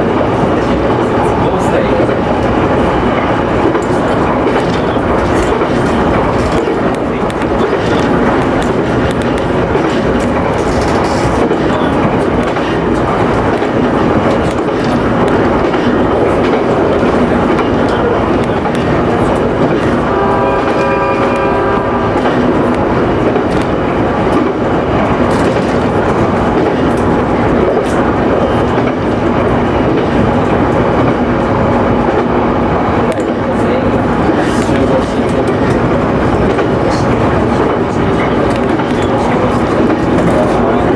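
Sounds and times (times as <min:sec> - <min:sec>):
train rumble and rail noise: 0:00.0 - 0:40.9.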